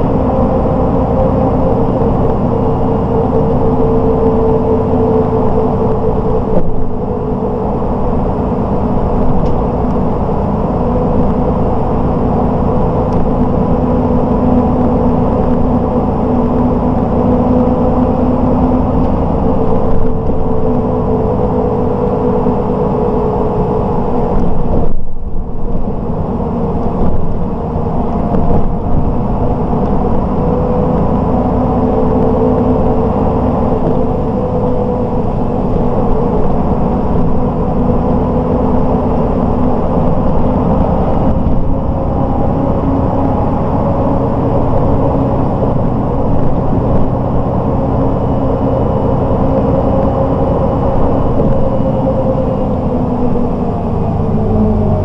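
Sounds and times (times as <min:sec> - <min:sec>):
bus diesel engine running: 0:00.0 - 0:55.0
tyre and road noise: 0:00.0 - 0:55.0.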